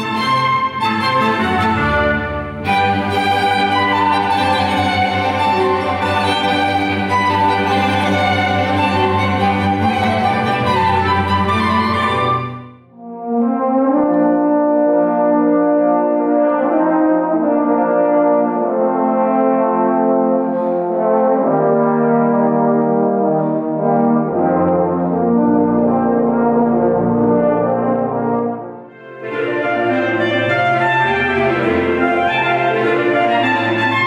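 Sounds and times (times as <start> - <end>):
trombones and tuba playing chords: 0.0 - 34.0.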